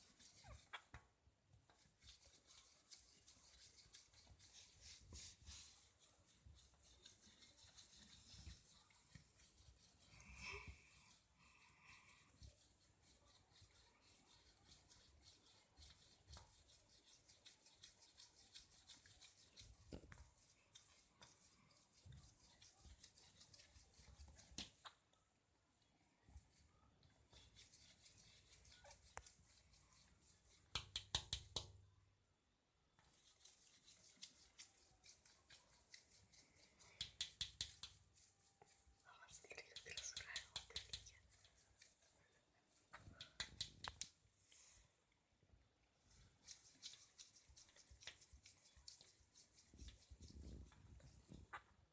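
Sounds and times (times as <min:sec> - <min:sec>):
parrot beak scratching and clicking: 0:00.0 - 0:01.1, 0:01.7 - 0:10.6, 0:12.4 - 0:25.0, 0:27.3 - 0:31.8, 0:33.0 - 0:44.2, 0:46.1 - 0:51.7.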